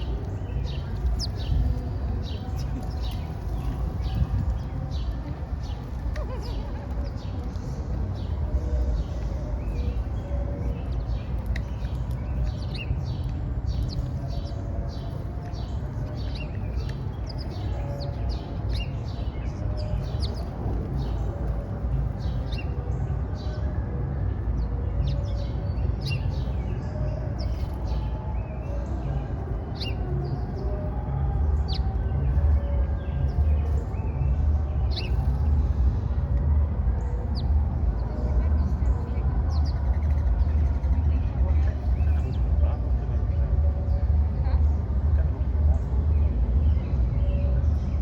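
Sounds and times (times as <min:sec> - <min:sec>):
small birds chirping: 0:00.0 - 0:23.8, 0:24.4 - 0:43.0
low rumble: 0:00.0 - 0:48.0.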